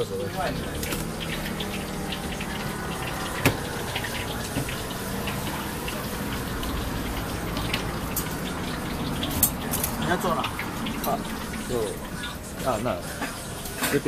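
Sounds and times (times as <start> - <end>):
steaming pot hissing: 0.0 - 14.0
utensils and bowls clinking: 0.0 - 14.0.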